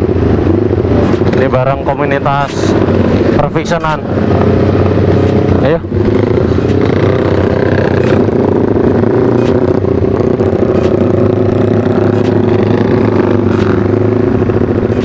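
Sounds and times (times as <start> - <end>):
motorcycle engine pulling away: 0.0 - 15.0.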